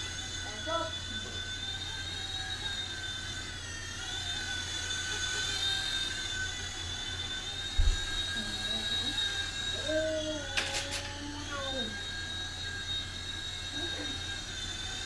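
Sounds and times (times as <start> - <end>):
toy helicopter motor whining: 0.0 - 15.0.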